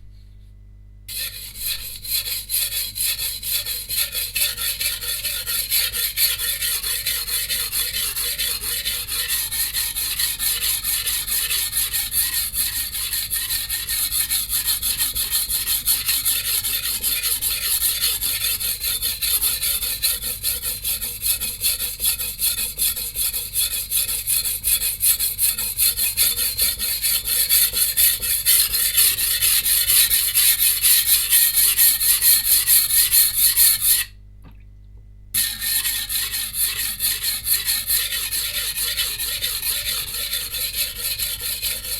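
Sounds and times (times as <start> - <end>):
knife scraping on whetstone: 1.1 - 34.1, 35.4 - 41.9.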